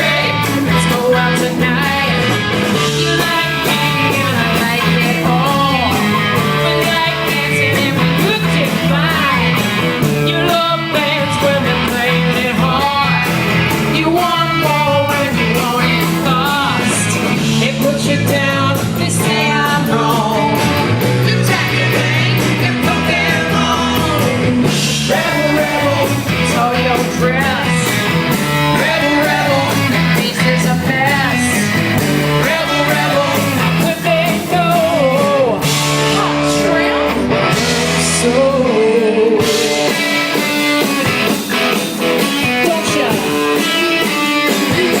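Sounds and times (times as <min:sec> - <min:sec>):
person singing: 0:00.0 - 0:41.1, 0:42.2 - 0:45.0
bass guitar: 0:00.0 - 0:45.0
drum kit: 0:00.0 - 0:45.0
electric guitar: 0:00.0 - 0:45.0.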